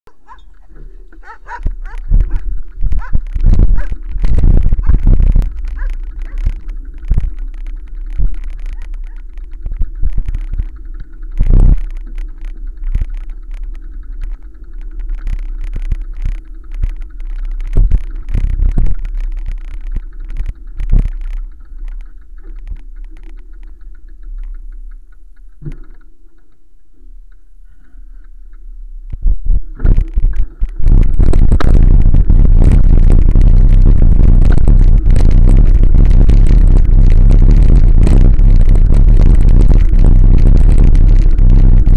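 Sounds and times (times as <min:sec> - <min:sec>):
bicycle knocks and rattles: 0:00.1 - 0:26.6, 0:27.3 - 0:41.9
wind rumble on microphone: 0:00.1 - 0:41.9.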